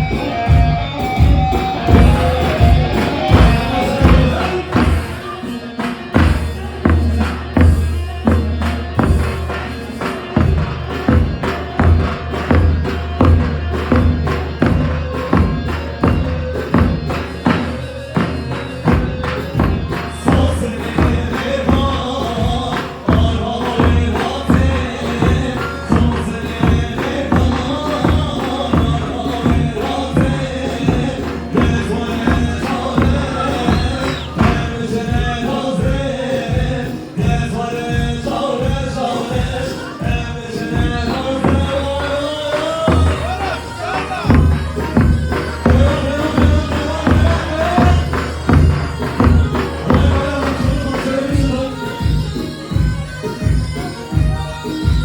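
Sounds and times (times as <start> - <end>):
dance music melody line: 0.0 - 55.0
heavy drum beat: 0.0 - 55.0.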